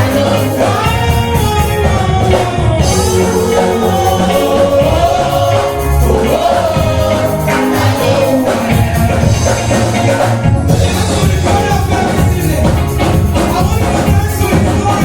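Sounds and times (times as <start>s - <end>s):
band with drum kit playing: 0.0s - 15.0s
choir singing: 0.0s - 15.0s.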